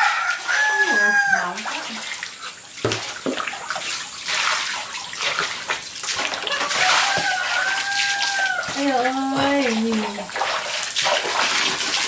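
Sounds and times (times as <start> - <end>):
water splashing and pouring: 0.0 - 12.0.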